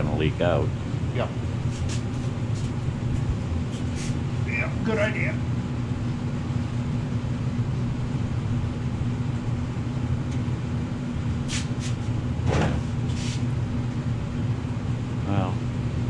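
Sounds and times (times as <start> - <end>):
furnace humming: 0.0 - 16.0.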